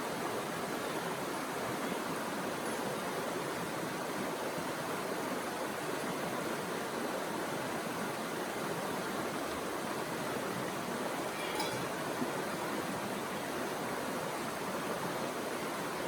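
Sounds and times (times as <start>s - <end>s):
running water: 0.6s - 16.0s.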